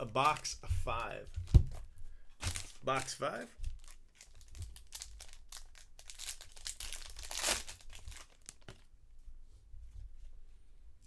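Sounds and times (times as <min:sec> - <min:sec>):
wrapper crinkling and tearing: 0:00.0 - 0:08.9.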